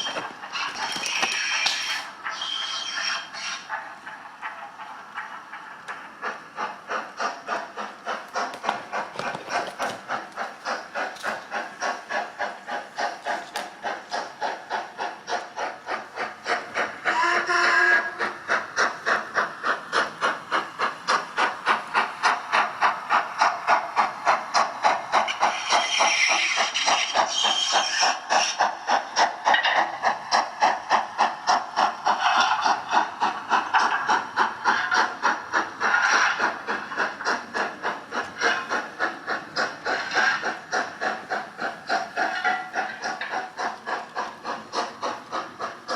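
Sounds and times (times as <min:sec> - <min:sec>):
hissing steam: 0:00.0 - 0:45.9
model train steam chuffs: 0:00.0 - 0:45.9.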